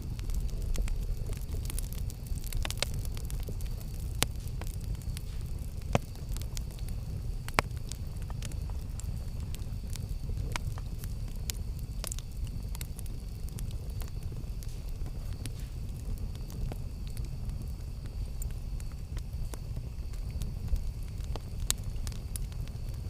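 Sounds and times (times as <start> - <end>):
fire snapping: 0.0 - 23.0
low steady rumble: 0.0 - 23.0
wood crackling and popping: 0.0 - 23.0.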